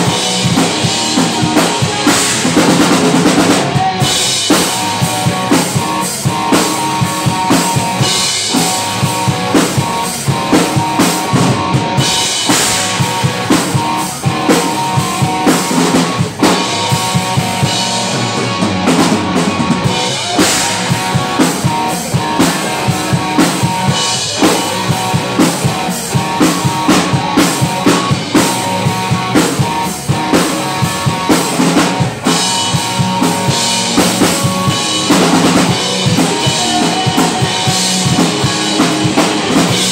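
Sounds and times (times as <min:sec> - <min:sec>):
drum kit beat: 0:00.0 - 0:39.9
electric bass: 0:00.0 - 0:39.9
electric guitar: 0:00.0 - 0:39.9.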